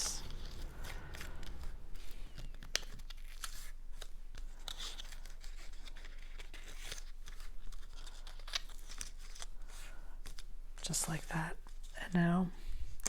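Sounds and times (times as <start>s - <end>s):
cardstock folding and rustling: 0.0s - 13.0s.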